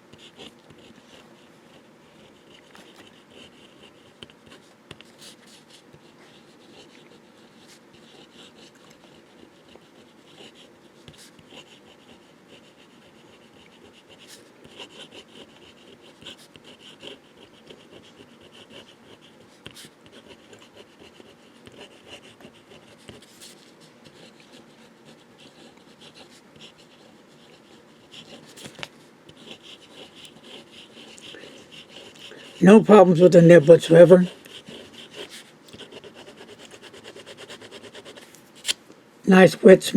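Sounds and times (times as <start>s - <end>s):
pen scratching on paper: 0.1s - 38.8s.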